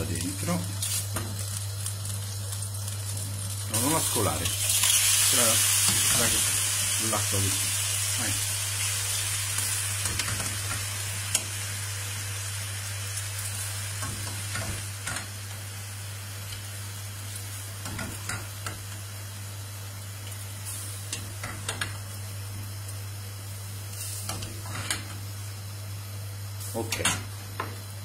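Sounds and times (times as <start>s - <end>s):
pasta sizzling in frying pan: 0.0s - 28.0s.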